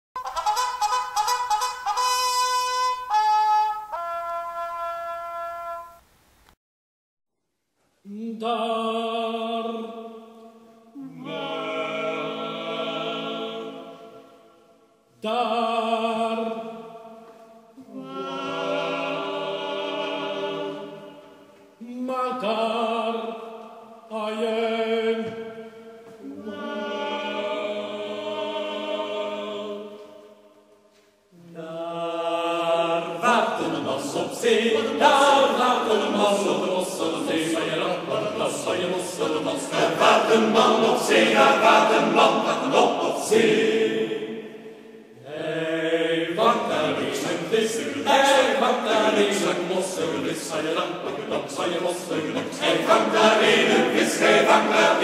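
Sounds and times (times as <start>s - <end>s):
men's choir singing a cappella: 8.1s - 14.5s, 15.2s - 17.2s, 17.8s - 30.6s, 31.4s - 55.0s.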